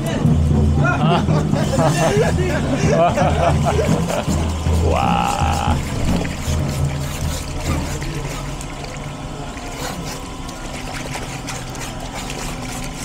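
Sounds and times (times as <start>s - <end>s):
low hum: 0.2s - 13.0s
running water splashing: 1.7s - 13.0s.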